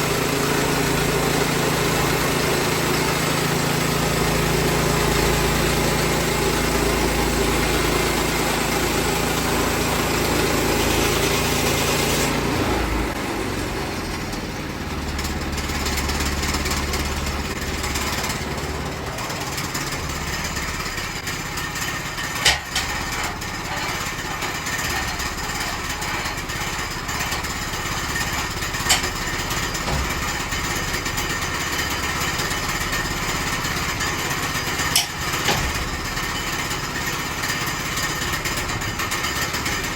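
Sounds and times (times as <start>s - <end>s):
small gas engine running: 0.0s - 39.9s.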